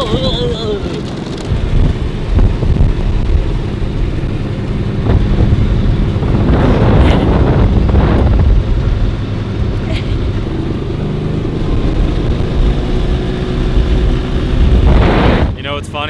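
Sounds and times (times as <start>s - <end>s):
farm vehicle engine droning: 0.0s - 16.0s
low rumbling jolts: 0.0s - 16.0s.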